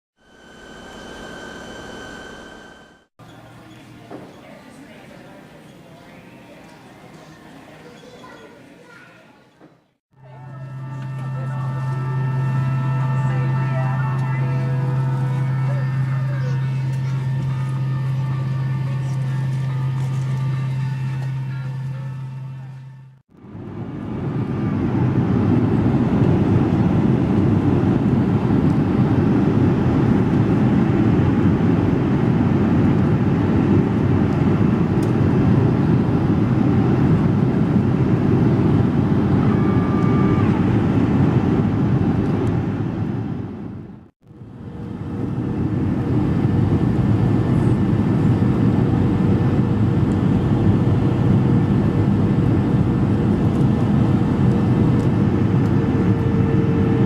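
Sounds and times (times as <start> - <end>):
aircraft cabin engine rumble: 10.2 - 57.0.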